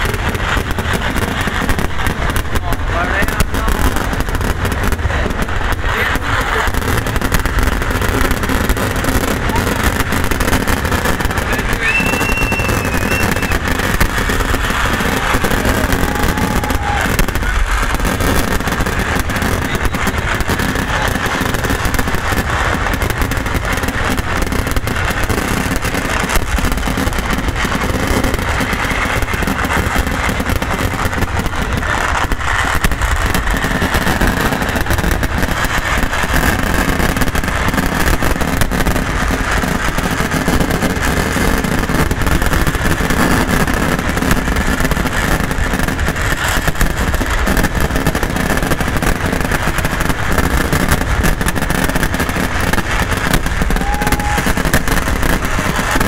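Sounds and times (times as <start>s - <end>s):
fireworks barrage rumble and crackle: 0.0s - 56.0s.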